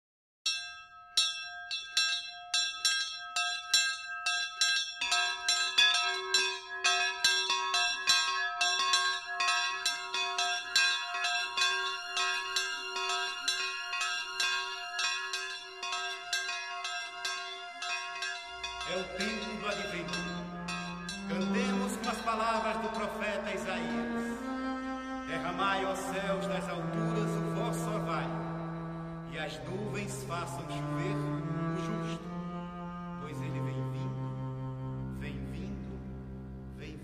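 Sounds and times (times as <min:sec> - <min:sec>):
bells ringing in a peal: 0:00.5 - 0:32.3
lower-pitched bell: 0:00.5 - 0:32.6.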